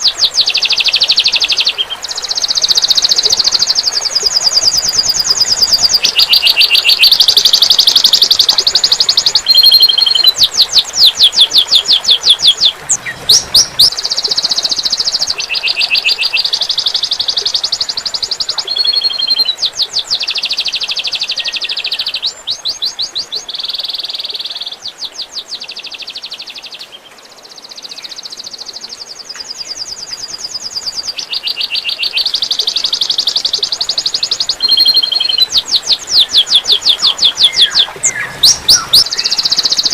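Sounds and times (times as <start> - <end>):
faint trickling water: 0.0 - 39.9
songbird singing trills: 0.0 - 39.9.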